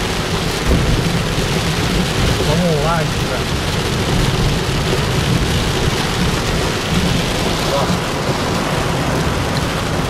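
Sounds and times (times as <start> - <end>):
heavy rain on car roof: 0.0 - 10.0.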